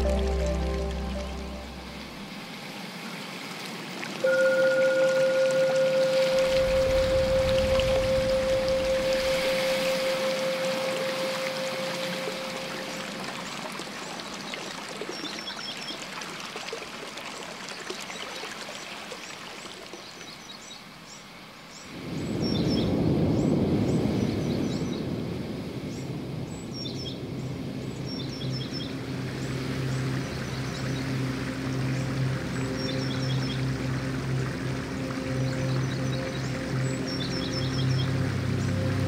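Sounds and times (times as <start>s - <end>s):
running water: 0.0s - 22.2s, 27.2s - 39.0s.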